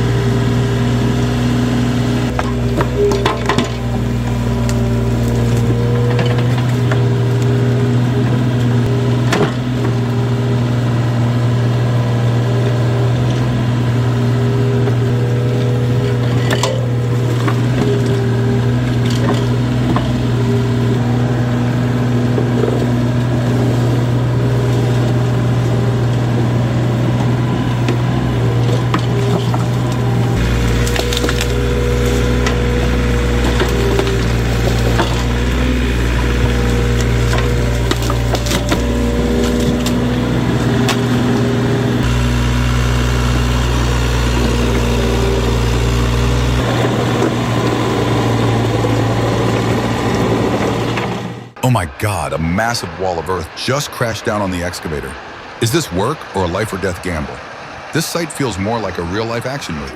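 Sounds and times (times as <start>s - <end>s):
diesel excavator engine running: 0.0s - 59.9s.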